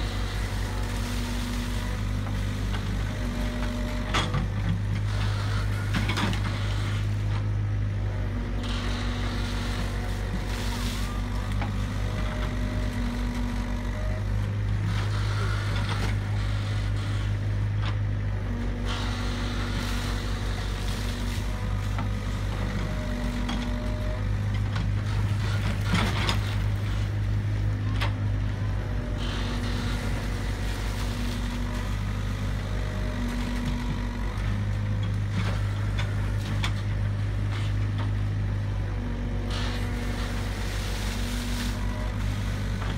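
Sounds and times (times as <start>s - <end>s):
diesel engine rumbling: 0.0s - 42.9s
hydraulic whine: 0.0s - 42.9s.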